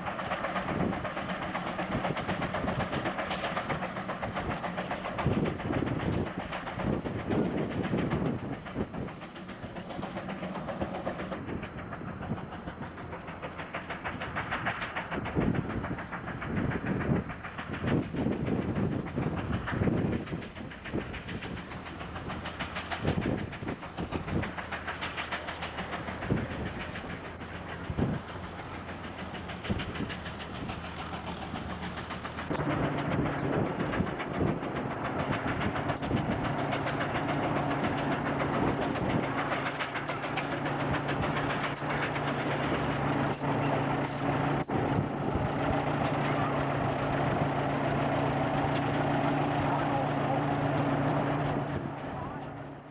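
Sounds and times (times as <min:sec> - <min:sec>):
engine knocks: 0:00.0 - 0:52.9
steady engine drone: 0:00.0 - 0:52.9
steam engine exhaust chuffing: 0:00.0 - 0:52.9.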